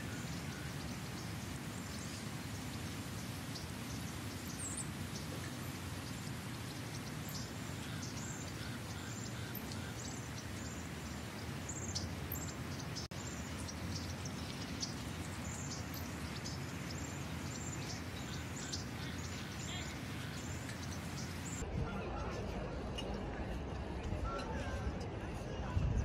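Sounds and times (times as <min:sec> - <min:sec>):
birds chirping: 0:00.0 - 0:21.6.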